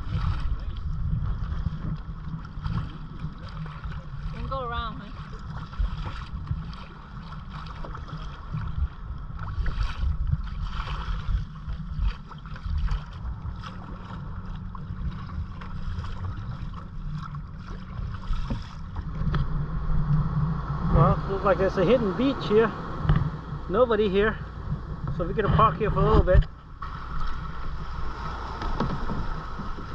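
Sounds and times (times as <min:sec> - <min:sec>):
kayak paddles splashing: 0:00.0 - 0:29.9
wind buffeting microphone: 0:00.0 - 0:29.9.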